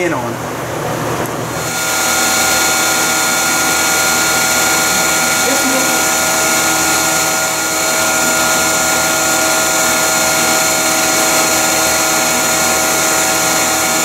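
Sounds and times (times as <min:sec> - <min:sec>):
vacuum motor whining: 0:01.2 - 0:14.0.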